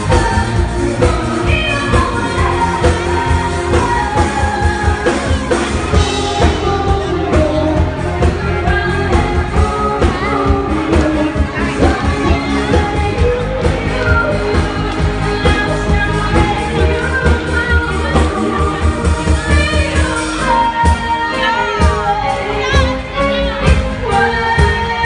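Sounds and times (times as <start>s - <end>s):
pop band playing: 0.0s - 25.0s
woman singing: 0.0s - 25.0s.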